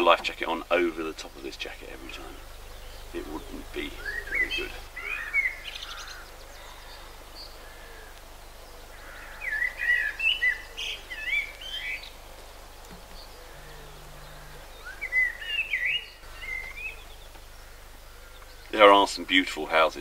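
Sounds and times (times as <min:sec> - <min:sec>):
faint steady background noise: 0:00.0 - 0:20.0
songbird warbling: 0:00.0 - 0:20.0.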